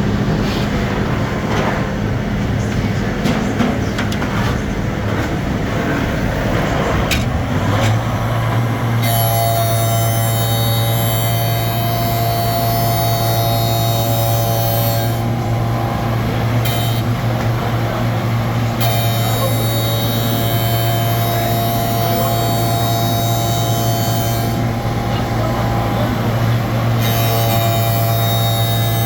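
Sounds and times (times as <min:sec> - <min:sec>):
high machine whine: 0:04.6 - 0:29.0
cnc router hum: 0:05.6 - 0:29.0.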